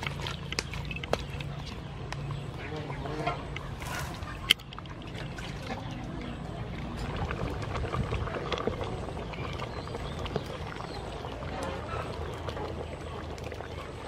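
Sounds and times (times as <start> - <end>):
curry bubbling and sloshing: 0.0 - 14.0.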